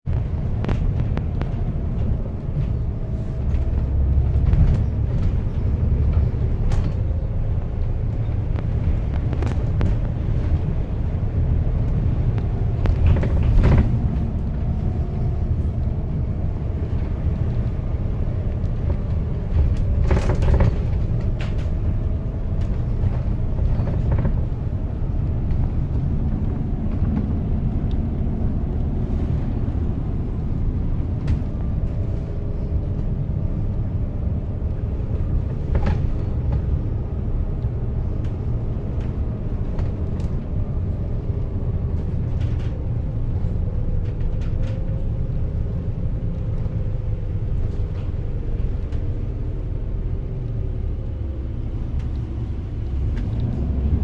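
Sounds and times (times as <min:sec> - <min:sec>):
strong wind buffeting microphone: 0:00.0 - 0:54.0.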